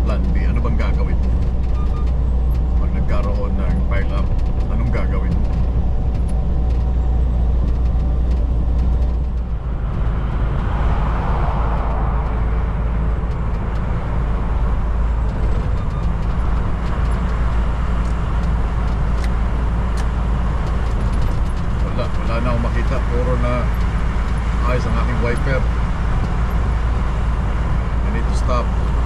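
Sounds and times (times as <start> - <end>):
truck engine and road drone: 0.0 - 29.0.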